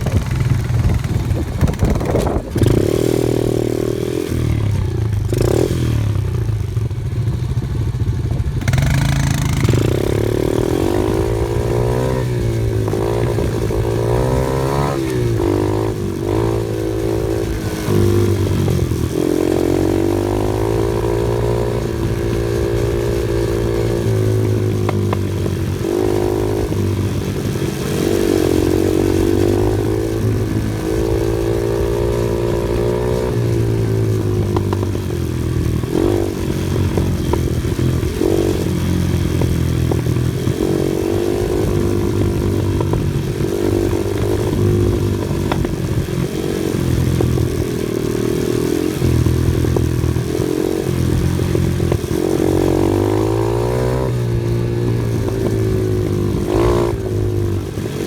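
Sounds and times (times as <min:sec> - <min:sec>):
off-road vehicle engine revving: 0:00.0 - 0:06.4, 0:08.6 - 0:58.0.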